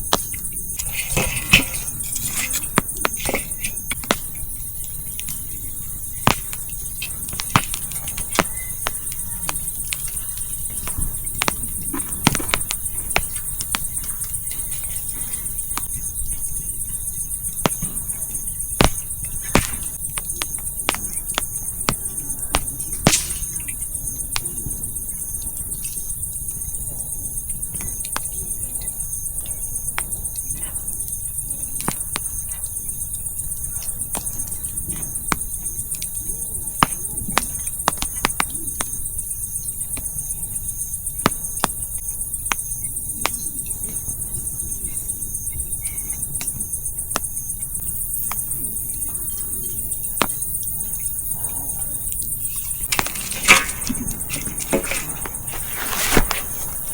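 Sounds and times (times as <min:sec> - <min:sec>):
campfire crackling: 0:00.0 - 0:25.0, 0:31.3 - 0:56.9
crickets chirping: 0:00.0 - 0:56.9.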